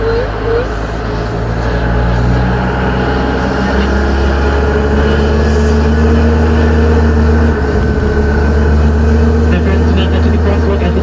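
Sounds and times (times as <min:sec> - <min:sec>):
steady tones: 0:00.0 - 0:11.0
tram engine drone: 0:00.0 - 0:11.0.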